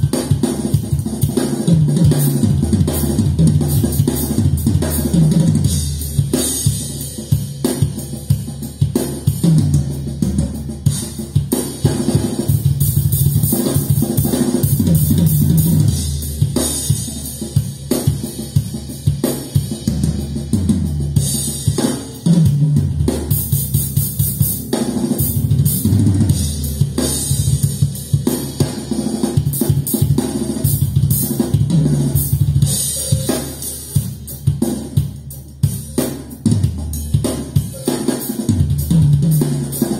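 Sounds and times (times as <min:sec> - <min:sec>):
drum kit music with strong bass: 0:00.0 - 0:39.9.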